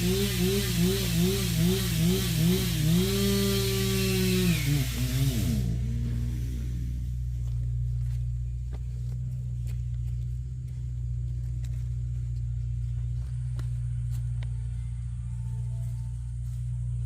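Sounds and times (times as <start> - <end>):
motor droning: 0.0 - 17.0.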